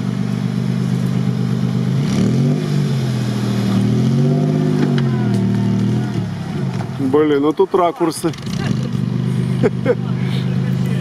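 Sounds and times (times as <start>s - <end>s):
off-road vehicle engine idling and revving: 0.0s - 11.0s.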